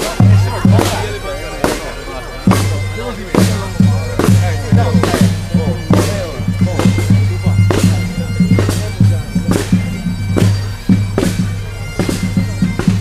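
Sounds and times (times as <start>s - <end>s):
bagpipes playing marching tune: 0.0s - 13.0s
drum beating: 0.0s - 13.0s.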